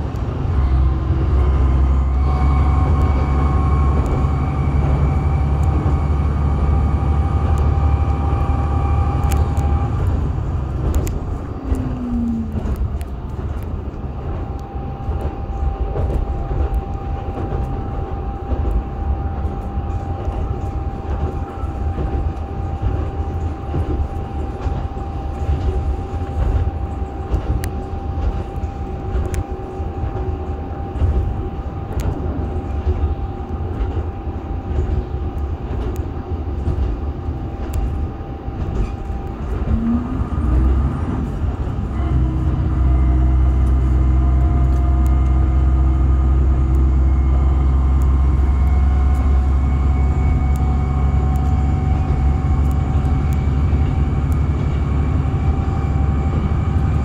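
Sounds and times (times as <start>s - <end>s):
diesel railcar engine: 0.0s - 57.0s
wheels clicking over rail joints: 0.0s - 57.0s.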